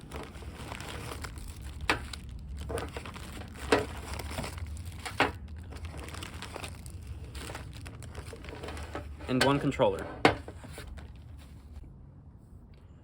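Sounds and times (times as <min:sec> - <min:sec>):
plastic packaging crinkling: 0:00.0 - 0:11.8
steady low hum: 0:00.0 - 0:13.0.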